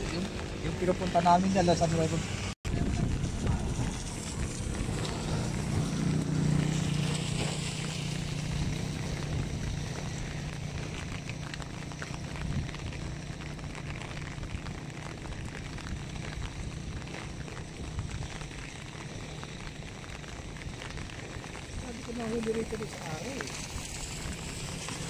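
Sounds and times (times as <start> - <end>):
low rumble: 0.0 - 25.0
rain falling on water: 0.0 - 25.0.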